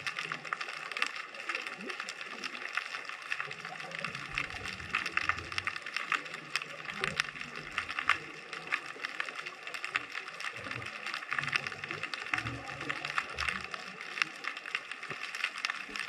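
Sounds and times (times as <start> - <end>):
low underwater rumbling: 0.0 - 16.0
underwater crackle of fine clicks: 0.0 - 16.0.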